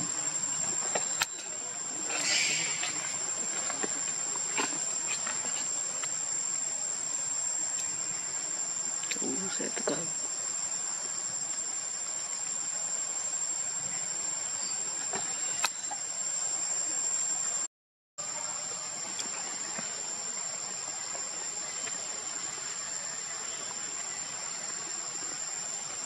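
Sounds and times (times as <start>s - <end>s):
even hiss: 0.0s - 26.0s
high-pitched insect drone: 0.0s - 26.0s.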